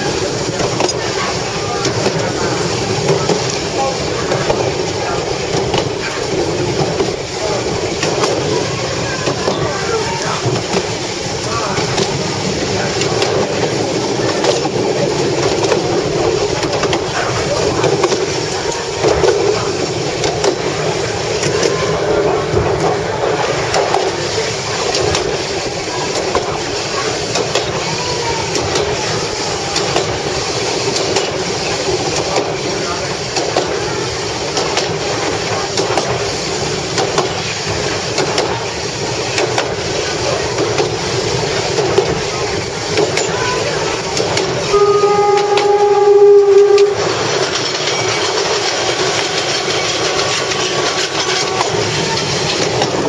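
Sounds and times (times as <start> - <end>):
wheels rumbling on rails: 0.0 - 53.0.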